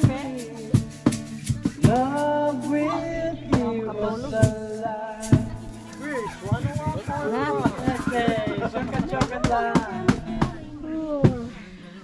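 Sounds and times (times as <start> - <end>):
person singing: 0.0 - 6.0, 7.0 - 12.0
drum kit playing: 0.0 - 11.5.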